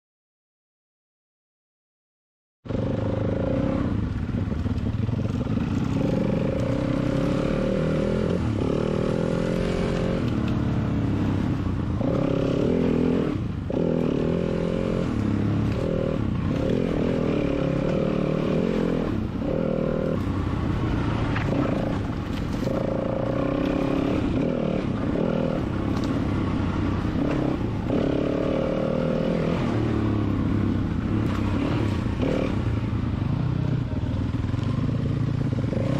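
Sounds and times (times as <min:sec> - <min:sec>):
dirt bike engine revving: 0:02.7 - 0:04.1, 0:05.1 - 0:33.6, 0:34.5 - 0:35.9.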